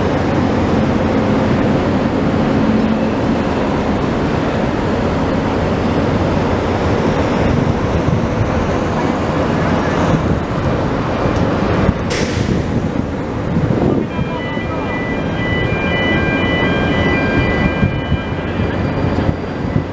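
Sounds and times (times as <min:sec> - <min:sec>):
wind buffeting microphone: 0:00.0 - 0:14.2, 0:17.0 - 0:19.9.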